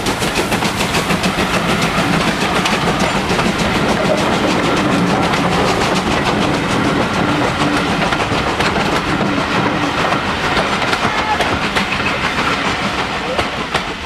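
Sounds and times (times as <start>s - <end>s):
train rumble: 0.0s - 14.0s
wheels clicking on rails: 0.0s - 14.0s.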